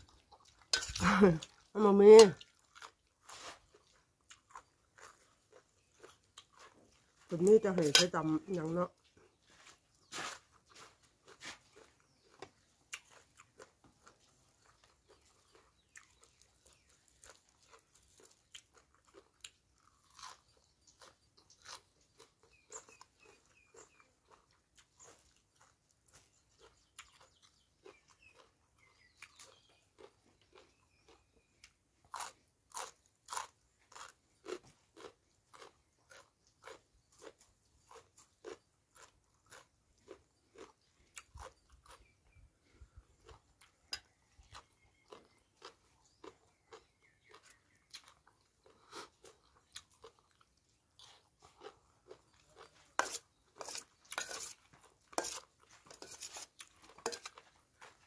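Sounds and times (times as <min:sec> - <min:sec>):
person chewing crunchy vegetables: 0:00.0 - 0:58.0.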